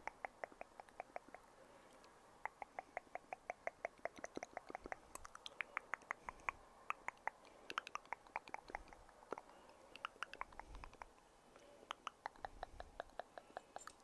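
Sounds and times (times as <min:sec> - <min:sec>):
small sharp clicks and pops: 0:00.0 - 0:11.2, 0:11.9 - 0:14.0.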